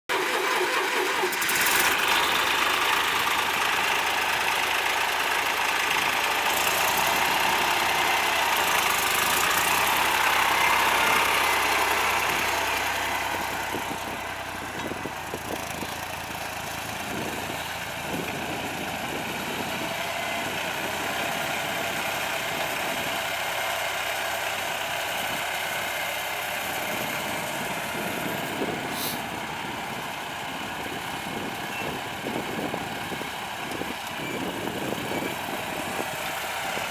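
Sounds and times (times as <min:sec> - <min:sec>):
tractor engine running: 0:00.1 - 0:36.9.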